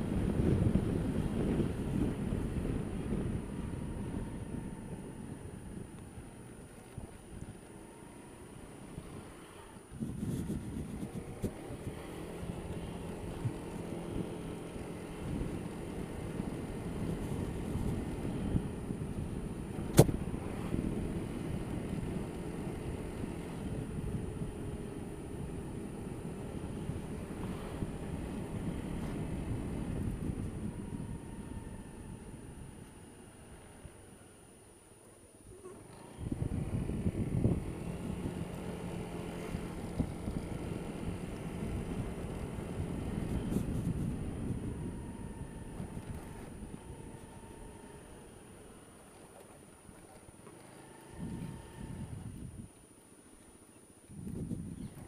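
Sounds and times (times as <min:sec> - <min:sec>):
wind buffeting microphone: 0:00.0 - 0:34.2, 0:35.5 - 0:49.0, 0:51.0 - 0:52.7, 0:54.0 - 0:55.0
scooter engine rumble: 0:00.0 - 0:55.0.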